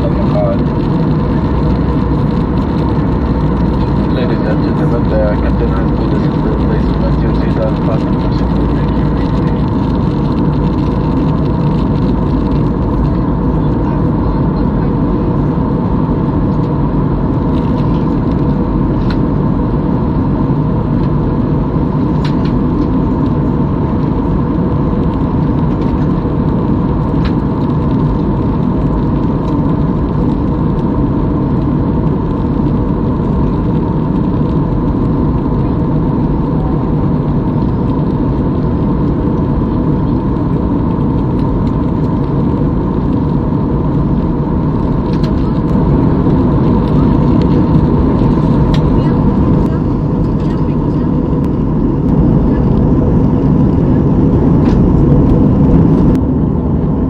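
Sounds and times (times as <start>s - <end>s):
jet engine cabin rumble: 0.0s - 57.0s.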